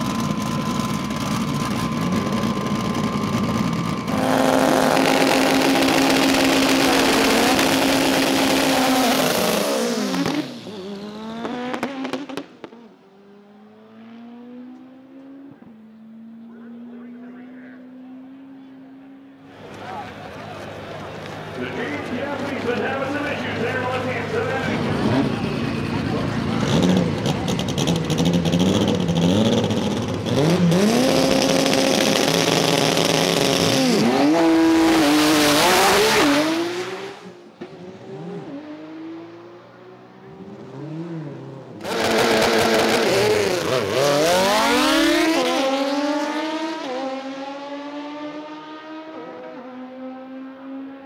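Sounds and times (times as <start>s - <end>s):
race car engines at full throttle: 0.0s - 51.0s.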